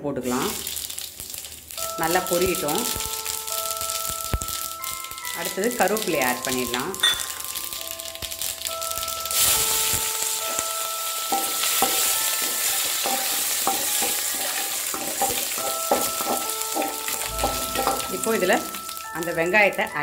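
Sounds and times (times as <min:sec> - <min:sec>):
leaves sizzling in hot oil: 0:00.2 - 0:20.0.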